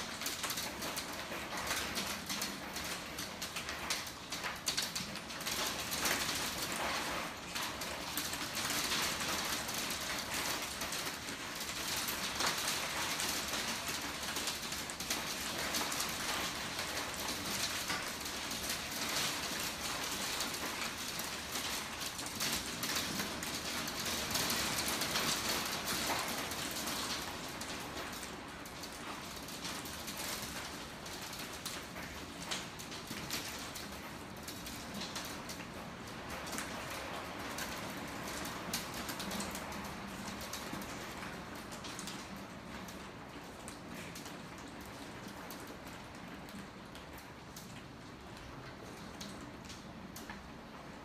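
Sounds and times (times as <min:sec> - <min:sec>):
hail pelting deck and glass: 0:00.0 - 0:50.7.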